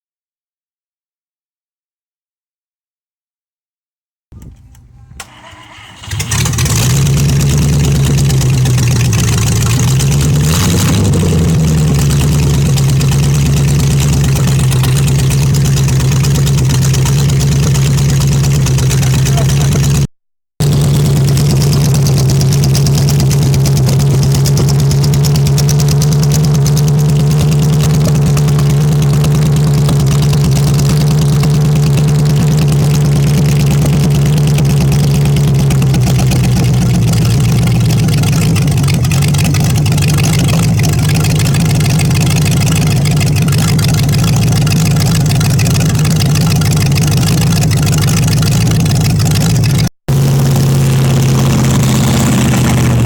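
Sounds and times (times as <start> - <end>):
car engine running: 5.3 - 53.0.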